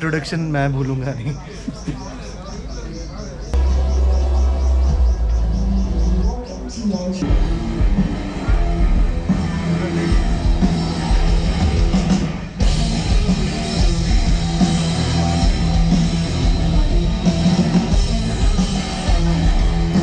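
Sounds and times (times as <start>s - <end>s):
live rock music: 3.5s - 20.0s.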